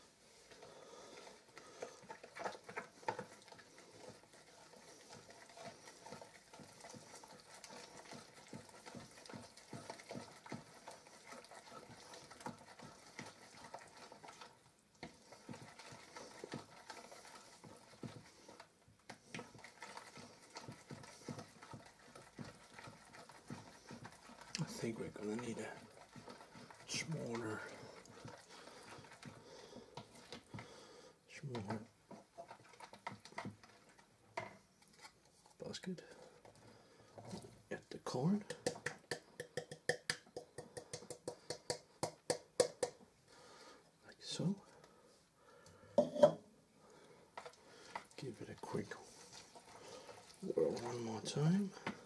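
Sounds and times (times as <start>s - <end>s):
spoon stirring batter in a bowl: 0.0s - 52.0s.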